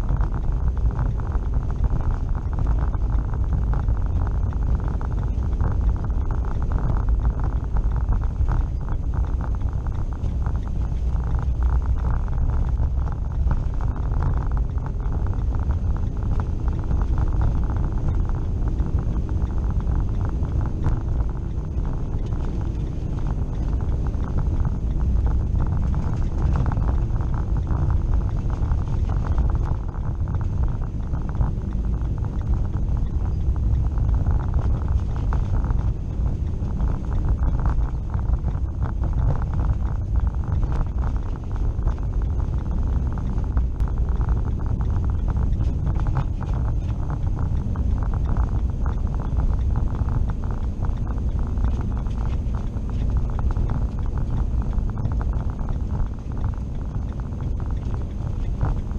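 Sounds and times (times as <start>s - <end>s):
vehicle engine rumble: 0.0s - 58.9s.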